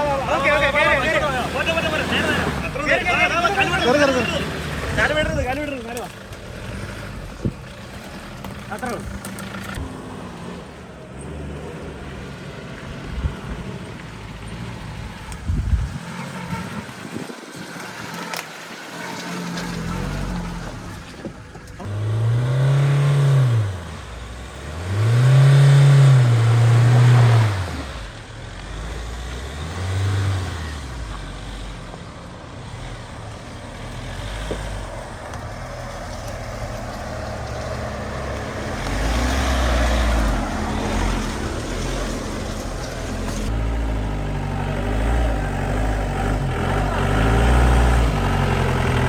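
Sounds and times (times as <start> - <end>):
engine revving: 0.0 - 17.1, 17.7 - 49.0.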